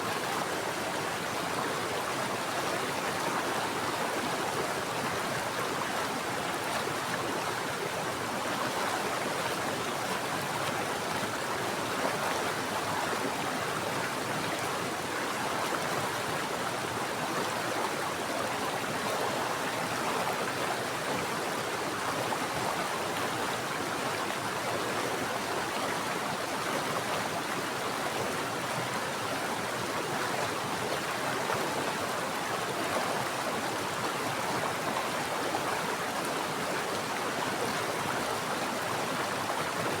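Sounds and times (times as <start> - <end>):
stream flowing over rocks: 0.0 - 40.0.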